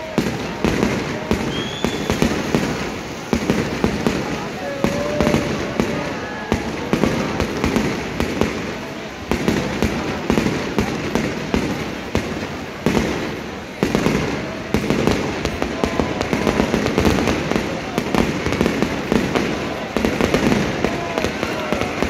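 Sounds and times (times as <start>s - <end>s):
firework shell bursts and crackling: 0.0s - 22.0s
loud firework bangs: 0.0s - 22.0s.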